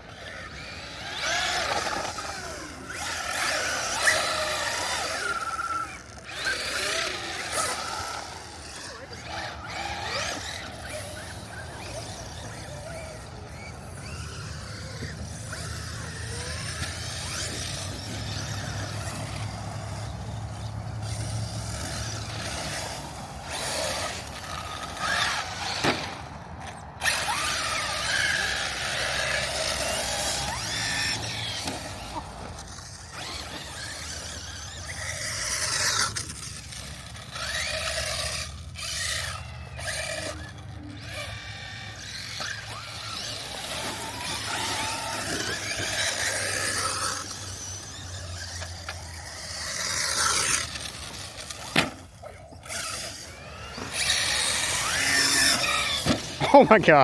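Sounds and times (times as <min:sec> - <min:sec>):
electric motor whining: 0:00.0 - 0:57.0
tyres scrabbling over ground: 0:00.1 - 0:57.0.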